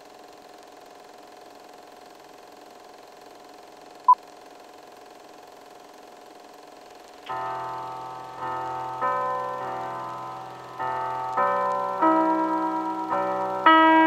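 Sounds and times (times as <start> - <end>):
film projector whirring: 0.0 - 14.0.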